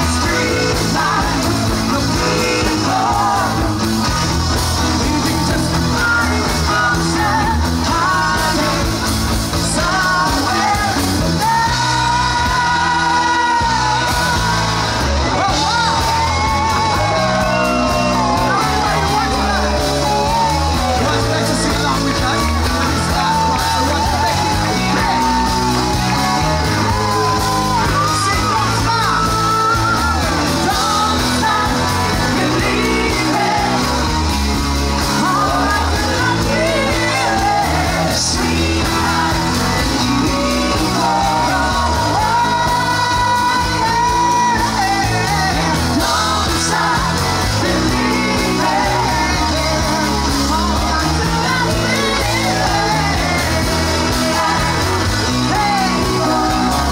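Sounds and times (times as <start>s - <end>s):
drums: 0.0s - 56.9s
electric guitar: 0.0s - 56.9s
man singing: 0.0s - 56.9s.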